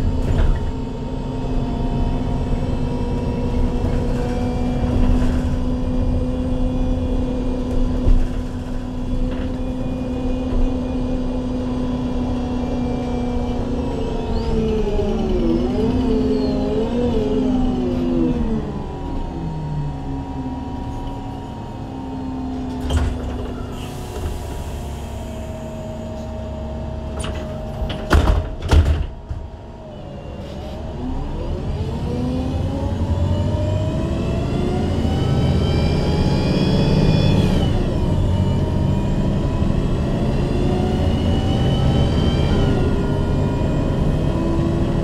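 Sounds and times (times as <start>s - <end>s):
bus engine and gearbox whine: 0.0s - 45.0s.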